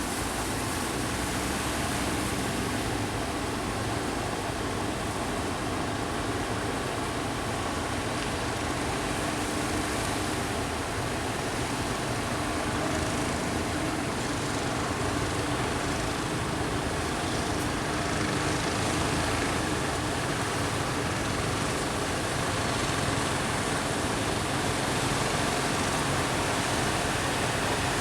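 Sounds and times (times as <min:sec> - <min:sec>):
sea surf roar: 0:00.0 - 0:28.0
wind: 0:00.0 - 0:28.0.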